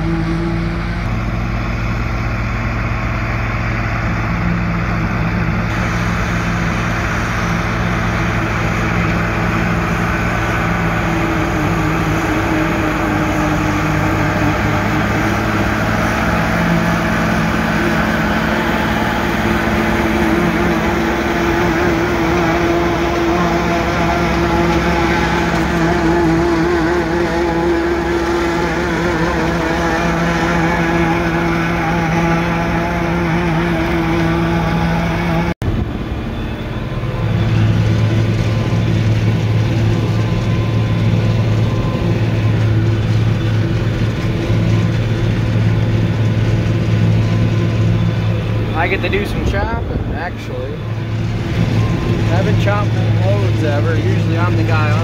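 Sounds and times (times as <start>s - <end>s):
forage chopper whirring: 0.0s - 55.0s
tractor diesel engine running: 0.0s - 55.0s.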